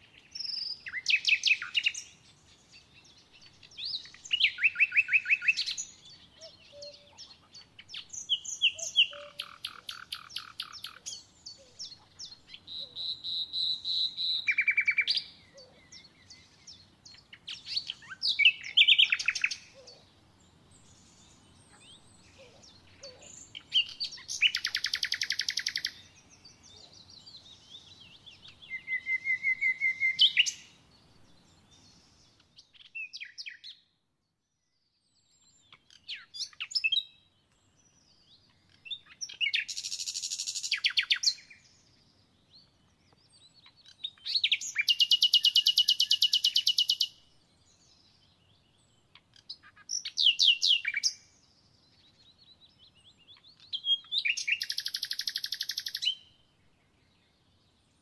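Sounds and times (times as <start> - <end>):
songbirds singing trills: 0.0 - 58.0.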